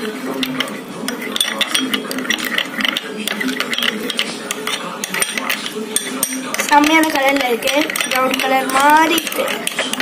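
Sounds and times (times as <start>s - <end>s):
spoon scraping glass bowl: 0.0s - 10.0s.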